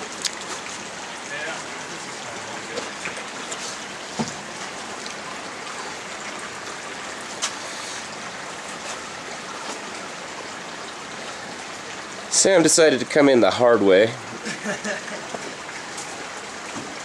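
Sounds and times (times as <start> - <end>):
flowing creek water: 0.0 - 17.0.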